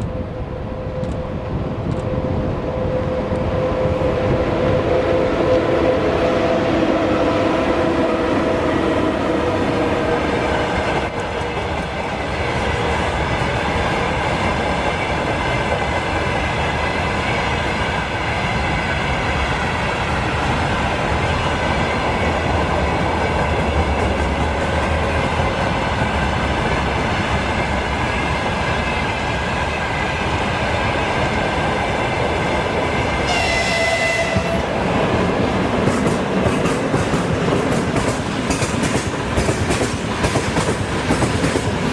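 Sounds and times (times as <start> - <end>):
freight train passing: 0.0 - 41.9.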